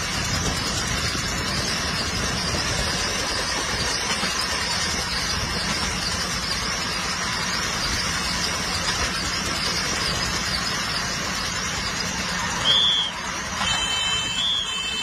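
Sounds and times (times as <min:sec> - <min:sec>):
diesel engine drone: 0:00.0 - 0:15.0
train running hiss: 0:00.0 - 0:15.0.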